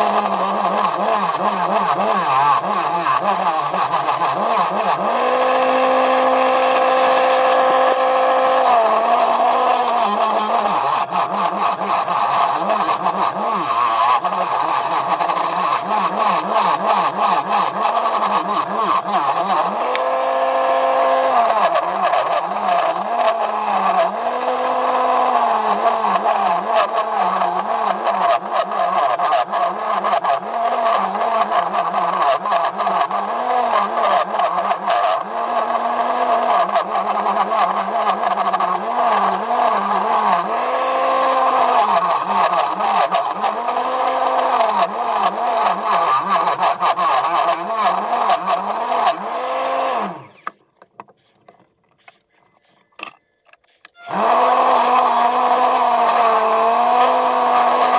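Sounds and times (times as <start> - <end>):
lathe motor whine: 0.0 - 50.6, 54.1 - 57.9.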